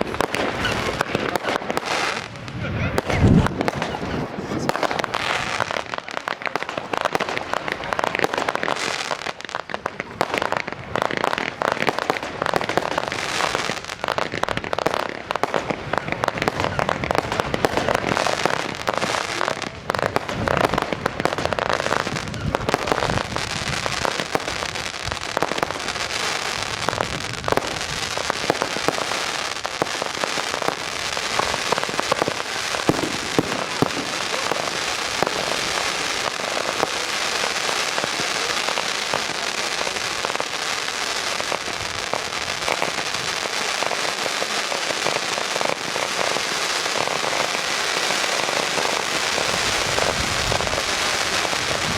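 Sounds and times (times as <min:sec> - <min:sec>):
firework bangs: 0:00.0 - 0:51.9
fireworks crackling: 0:00.0 - 0:51.9.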